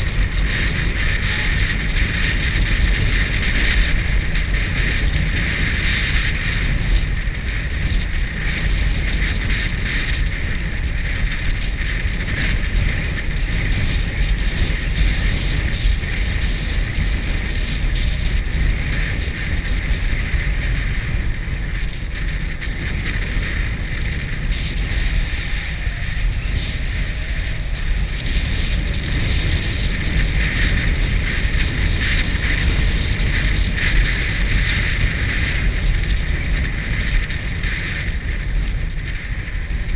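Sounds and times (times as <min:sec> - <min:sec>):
motorcycle engine rumble: 0:00.0 - 0:39.9
wind on microphone: 0:00.0 - 0:39.9.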